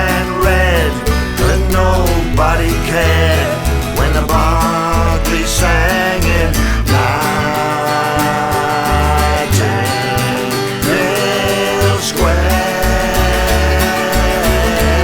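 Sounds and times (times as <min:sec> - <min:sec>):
acoustic folk band music: 0:00.0 - 0:15.0
double bass line: 0:00.0 - 0:15.0.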